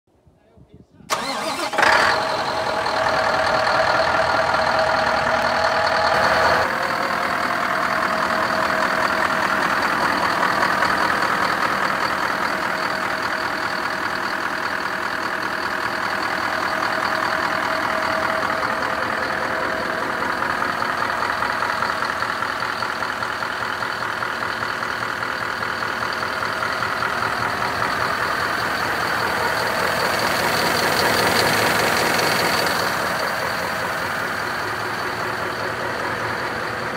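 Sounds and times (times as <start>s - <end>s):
truck diesel engine idling: 1.1s - 36.9s.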